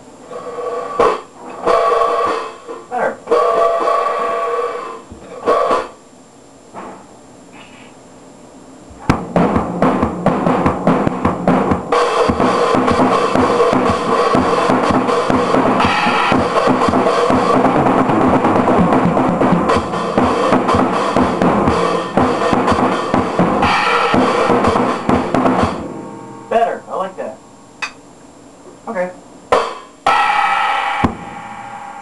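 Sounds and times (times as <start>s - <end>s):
drum kit playing: 0.0s - 6.0s, 8.9s - 32.0s.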